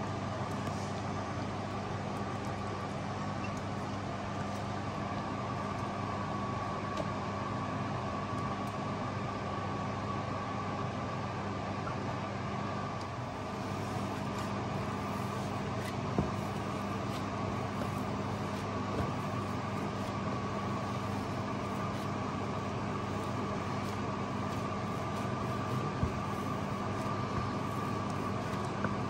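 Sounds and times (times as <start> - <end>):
fan motor drone with whine: 0.0 - 29.0.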